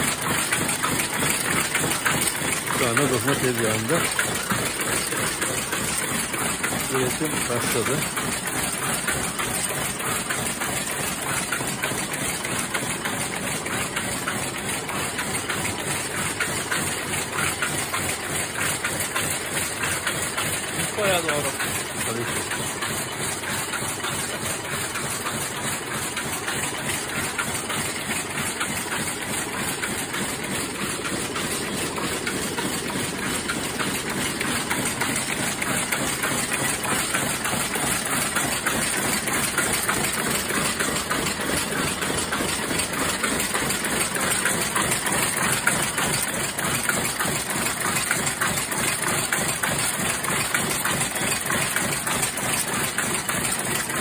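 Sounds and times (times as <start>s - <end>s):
power looms clattering: 0.0s - 54.0s.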